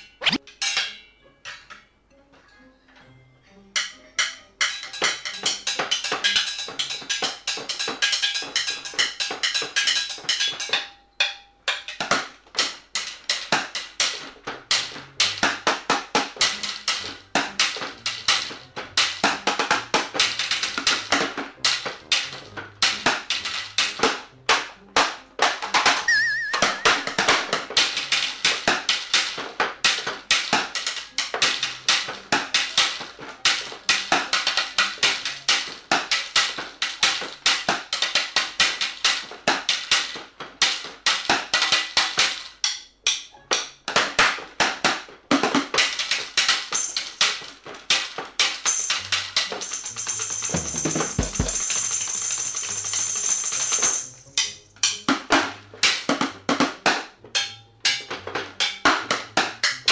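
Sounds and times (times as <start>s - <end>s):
drumsticks on household objects: 0.0s - 1.9s, 3.7s - 56.2s, 56.8s - 59.9s.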